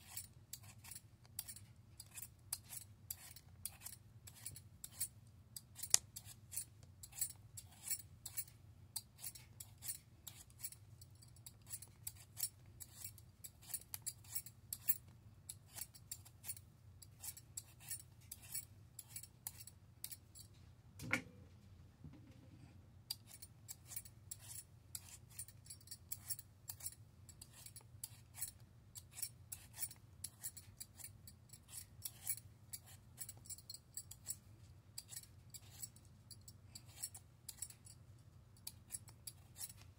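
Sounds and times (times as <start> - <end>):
peeler scraping potato skin: 0.0 - 20.5, 23.1 - 38.0, 38.6 - 39.9.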